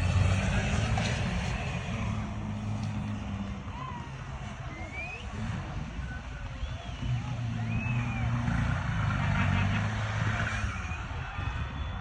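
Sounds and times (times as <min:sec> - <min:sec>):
race vehicle engine passing: 0:00.0 - 0:11.9
voices calling out: 0:00.0 - 0:12.0.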